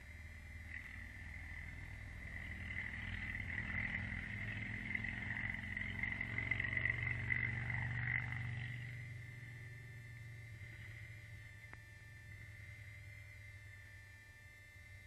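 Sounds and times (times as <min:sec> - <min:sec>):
low rumble: 0:00.0 - 0:13.4
animal buzzing trill: 0:00.0 - 0:13.7.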